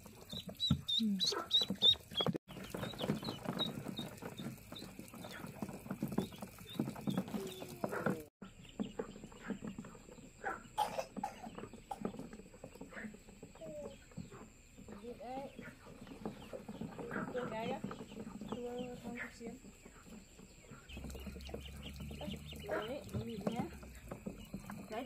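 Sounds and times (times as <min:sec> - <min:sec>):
poultry calling: 0:00.1 - 0:25.0.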